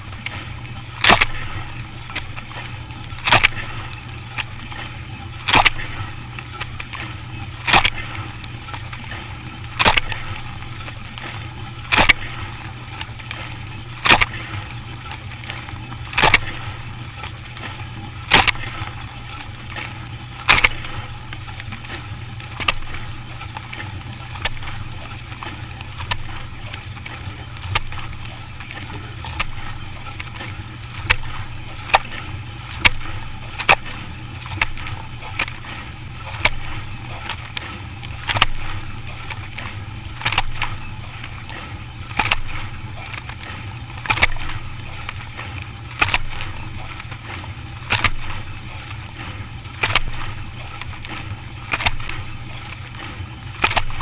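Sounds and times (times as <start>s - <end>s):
dishwasher humming: 0.0s - 54.0s.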